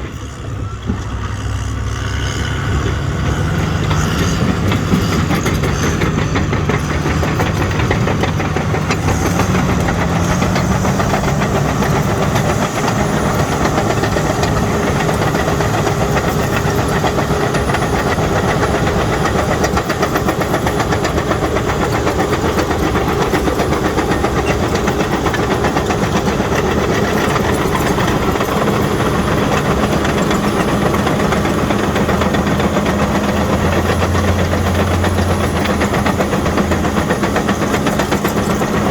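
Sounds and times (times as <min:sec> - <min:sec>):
bulldozer diesel engine running: 0:00.0 - 0:38.9
steel tracks clanking: 0:00.0 - 0:38.9.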